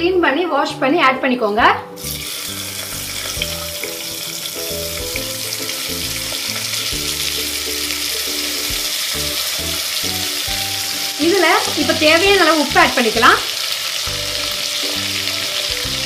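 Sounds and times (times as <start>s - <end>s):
soft background music: 0.0s - 16.0s
vegetables sizzling in hot oil: 2.0s - 16.0s.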